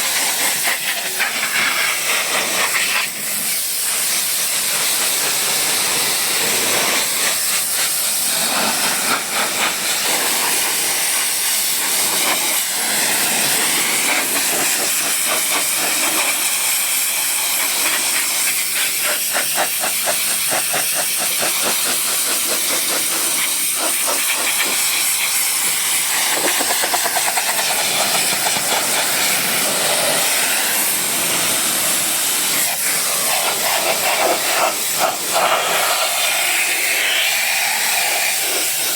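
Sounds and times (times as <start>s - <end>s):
high-pressure water spray hissing: 0.0s - 38.9s.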